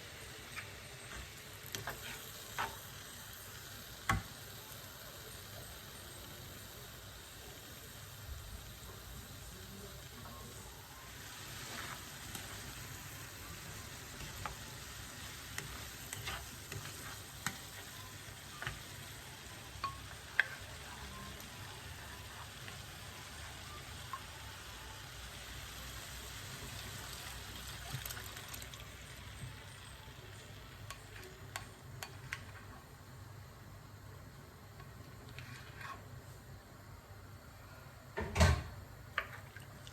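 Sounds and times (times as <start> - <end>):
vegetables sizzling in oil: 0.0 - 36.8.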